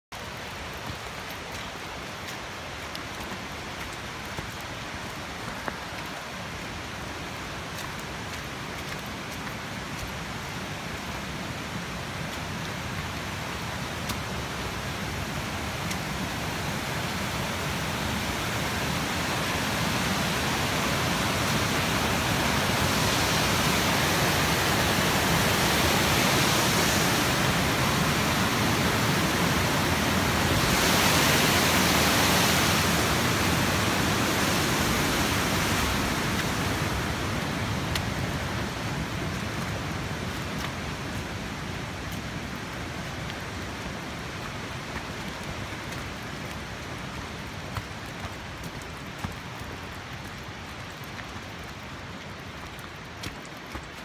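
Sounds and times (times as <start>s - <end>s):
rushing mountain creek: 0.1s - 54.0s.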